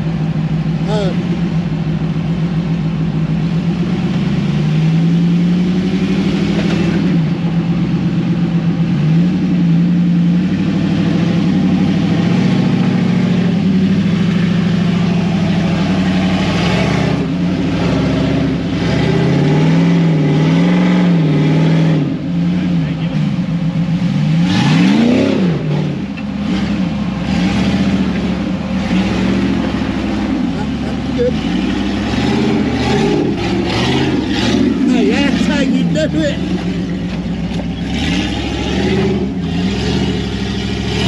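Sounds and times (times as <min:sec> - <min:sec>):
off-road vehicle engine revving: 0:00.0 - 0:41.0.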